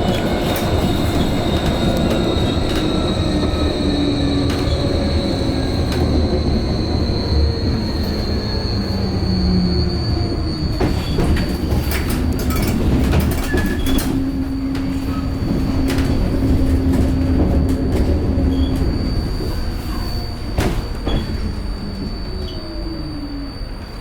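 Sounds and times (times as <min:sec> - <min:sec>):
tram rolling rumble: 0:00.0 - 0:24.0.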